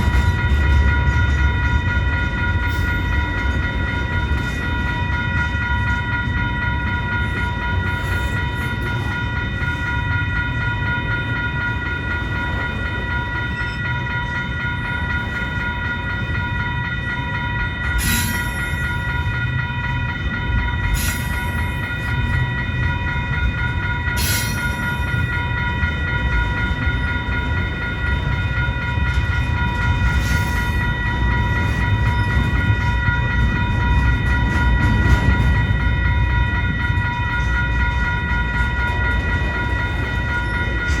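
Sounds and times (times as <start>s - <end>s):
freight train cars rumbling: 0.0s - 41.0s.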